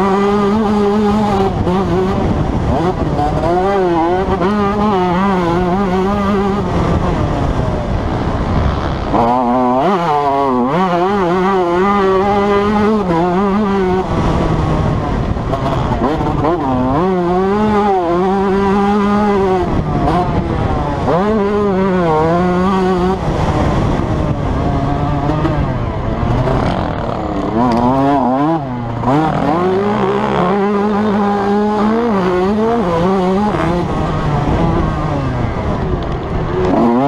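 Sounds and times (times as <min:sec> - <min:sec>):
motocross engine revving: 0:00.0 - 0:37.0.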